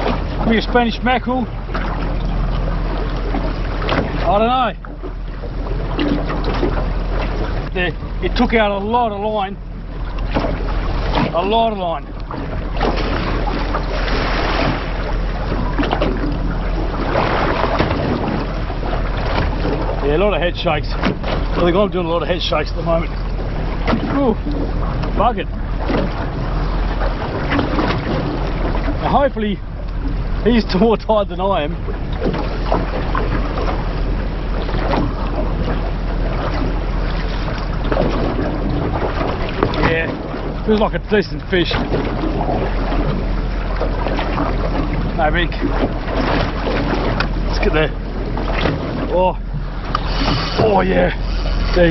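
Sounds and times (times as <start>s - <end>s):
boat motor humming: 0.0s - 51.9s
choppy water: 0.0s - 51.9s
wind: 0.0s - 51.9s.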